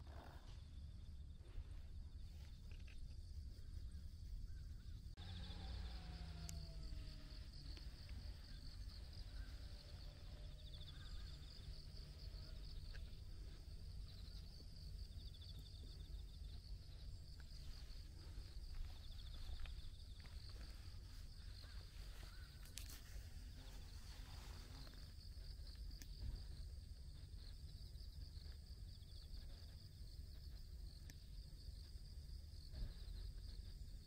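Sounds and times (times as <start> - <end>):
insects chirring: 0.0 - 34.0
low rumble: 0.6 - 22.6, 23.7 - 34.0.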